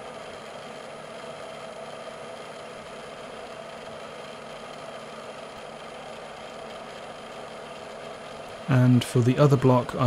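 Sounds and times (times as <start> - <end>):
milling machine running: 0.0 - 10.0.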